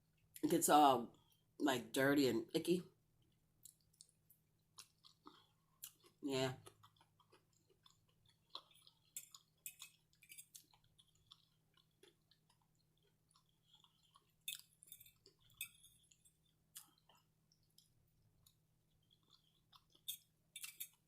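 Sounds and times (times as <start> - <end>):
chewing food: 3.1 - 21.0.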